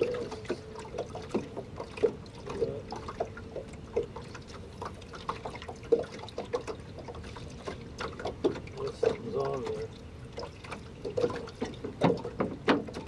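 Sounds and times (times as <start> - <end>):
waves lapping against boat hull: 0.0 - 13.0.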